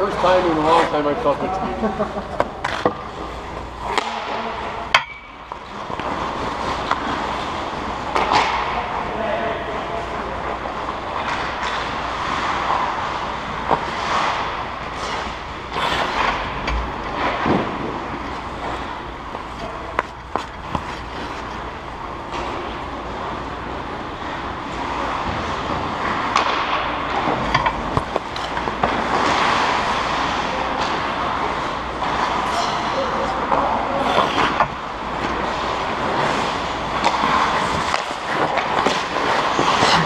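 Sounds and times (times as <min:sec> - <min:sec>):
skates scraping ice: 0:00.1 - 0:04.8, 0:05.5 - 0:09.0, 0:10.0 - 0:40.0
sticks and puck clacking: 0:02.2 - 0:09.2, 0:10.5 - 0:40.0.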